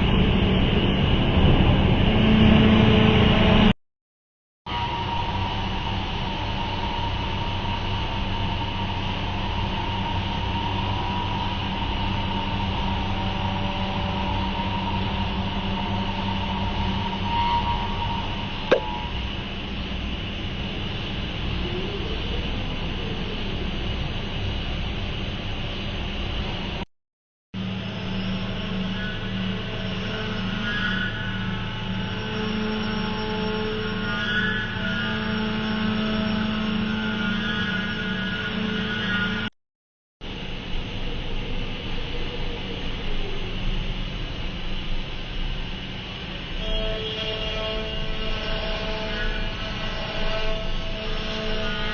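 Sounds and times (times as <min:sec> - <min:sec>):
cnc router hum and whine: 0:00.0 - 0:03.7, 0:04.7 - 0:26.8, 0:27.6 - 0:39.5, 0:40.2 - 0:51.9.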